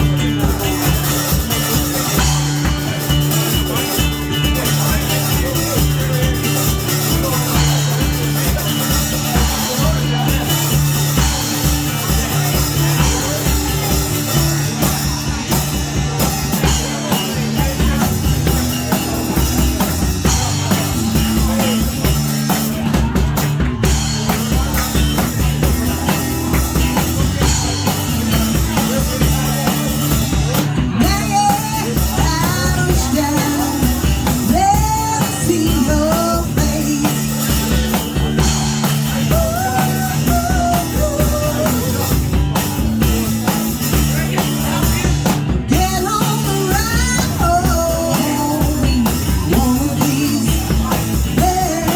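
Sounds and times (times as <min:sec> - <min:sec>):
rock music: 0:00.0 - 0:51.9.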